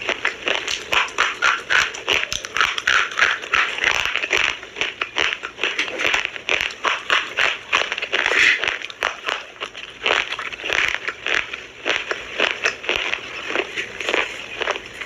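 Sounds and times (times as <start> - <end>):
sharp gritty crunches: 0.0 - 15.0
slate pencils being chewed: 0.0 - 15.0.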